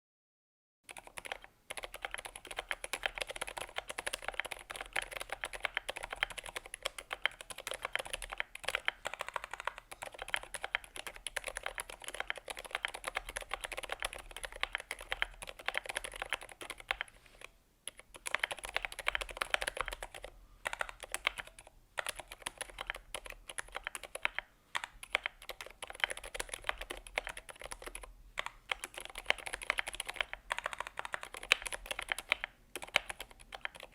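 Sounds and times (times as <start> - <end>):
muted mechanical keyboard typing: 0.9 - 33.9.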